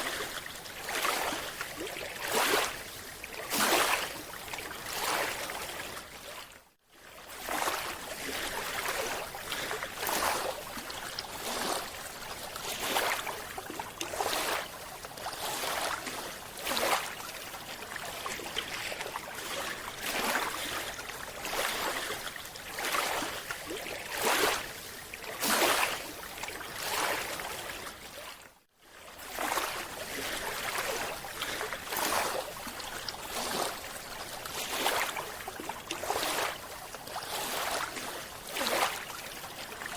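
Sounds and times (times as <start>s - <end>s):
rushing swirling water: 0.0s - 39.9s.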